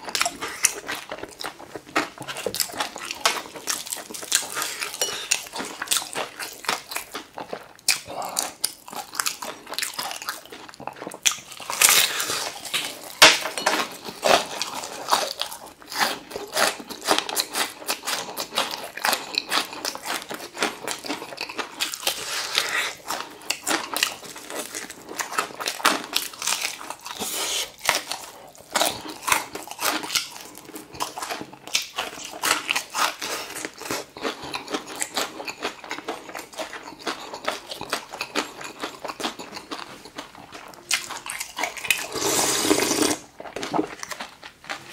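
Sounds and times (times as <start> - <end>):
crunchy chicken being chewed: 0.0 - 44.9.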